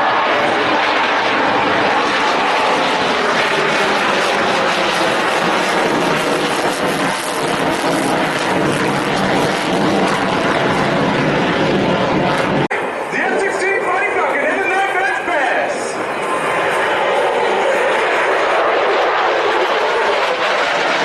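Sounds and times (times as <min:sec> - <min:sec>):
fighter jet engine roaring: 0:00.0 - 0:21.0.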